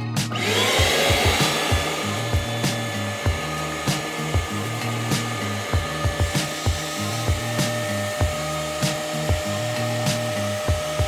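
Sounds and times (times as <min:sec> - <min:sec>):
carpet cleaner motor whining: 0:00.3 - 0:11.0.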